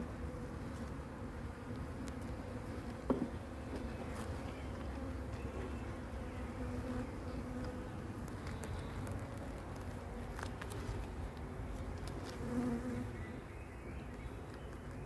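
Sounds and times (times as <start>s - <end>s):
honeybees buzzing: 0.0s - 13.4s.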